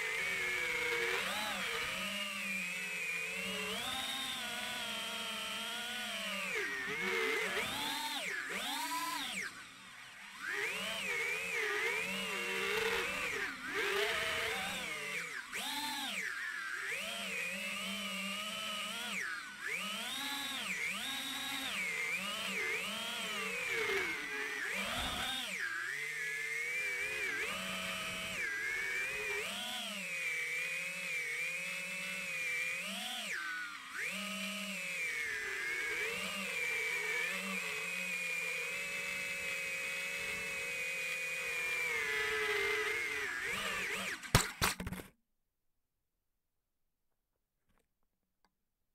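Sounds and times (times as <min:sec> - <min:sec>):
drone motors whining: 0:00.0 - 0:44.6.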